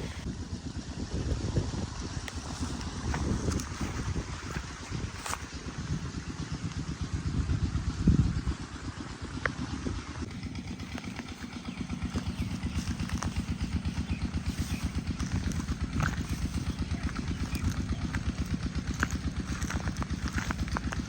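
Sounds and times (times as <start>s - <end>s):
diesel pump engine chugging: 0.0s - 21.0s.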